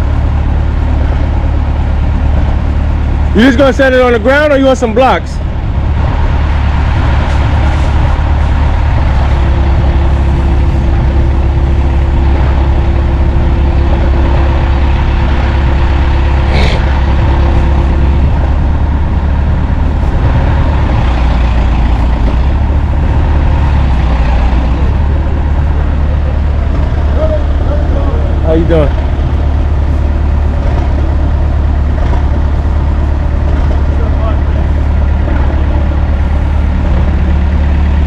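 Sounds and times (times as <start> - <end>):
thin steady whine: 0.0 - 38.0
truck engine idling: 0.0 - 38.0.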